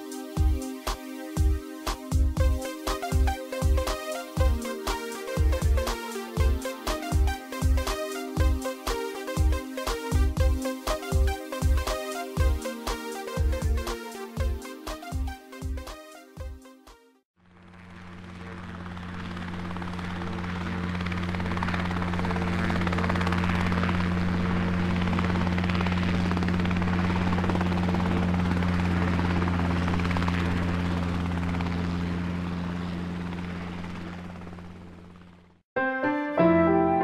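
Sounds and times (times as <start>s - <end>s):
helicopter rotor and engine: 0.0s - 16.1s, 17.4s - 35.6s.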